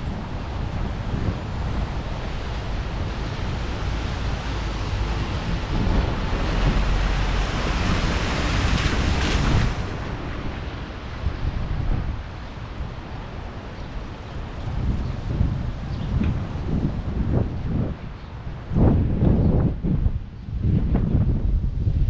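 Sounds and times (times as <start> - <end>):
low road rumble: 0.0 - 22.0
wind buffeting microphone: 0.0 - 22.0.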